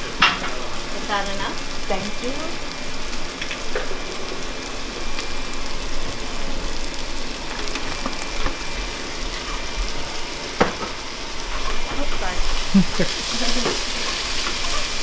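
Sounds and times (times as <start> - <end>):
fried rice sizzling in a pan: 0.0 - 15.0.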